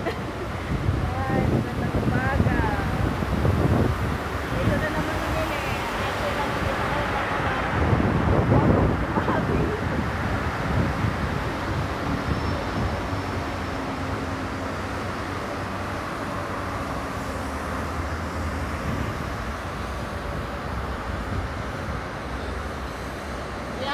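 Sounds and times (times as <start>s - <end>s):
city traffic: 0.0s - 23.9s.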